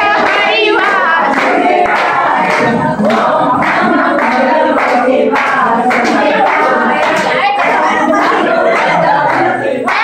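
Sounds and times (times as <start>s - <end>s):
hand clapping: 0.0s - 10.0s
women singing together: 0.0s - 10.0s.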